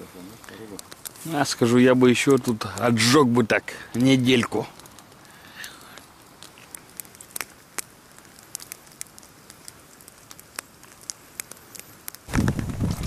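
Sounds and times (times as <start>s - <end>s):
campfire crackling: 0.0s - 13.0s
sharp pops of fire: 0.0s - 13.0s.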